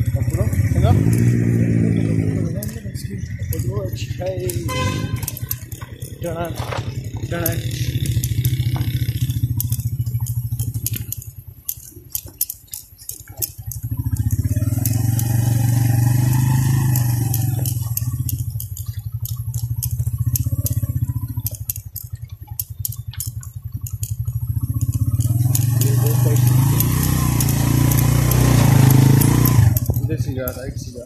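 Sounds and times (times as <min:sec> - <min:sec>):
bike rattling over rocks: 0:00.0 - 0:31.0
motorcycle engine running: 0:00.0 - 0:31.0.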